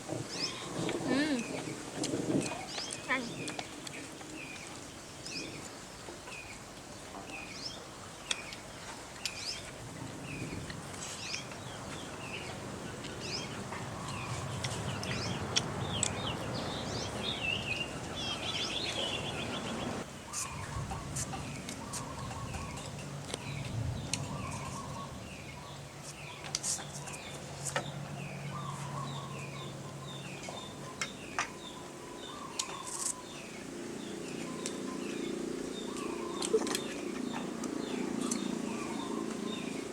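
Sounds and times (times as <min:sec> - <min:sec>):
birds chirping: 0:00.1 - 0:39.9.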